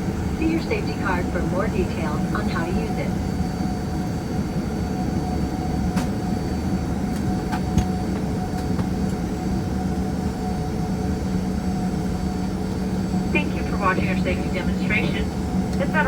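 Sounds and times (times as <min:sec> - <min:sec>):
airplane cabin hum and rumble: 0:00.0 - 0:16.0.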